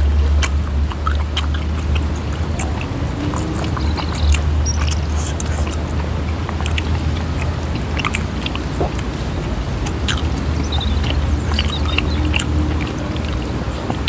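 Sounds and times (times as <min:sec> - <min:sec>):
chewing and lip-smacking: 0:00.0 - 0:14.0.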